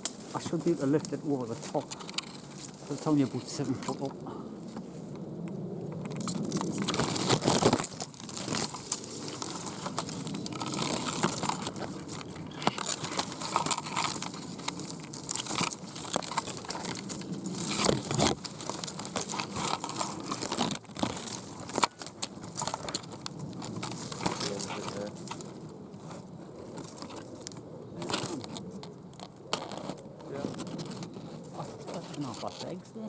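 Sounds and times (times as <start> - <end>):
leaves and twigs rustling: 0.0 - 33.0.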